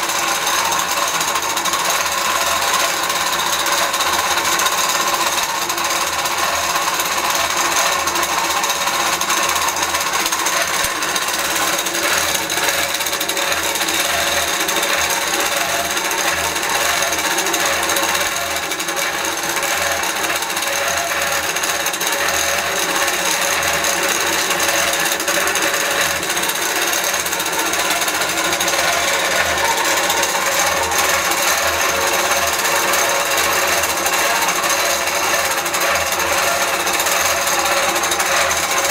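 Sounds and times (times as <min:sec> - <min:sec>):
quilting machine stitching: 0:00.0 - 0:38.9.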